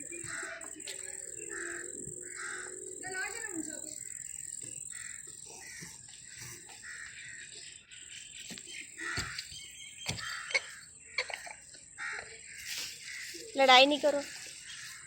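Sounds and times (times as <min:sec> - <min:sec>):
crows cawing: 0:00.1 - 0:04.2, 0:04.8 - 0:07.6, 0:09.0 - 0:13.5, 0:14.2 - 0:15.0.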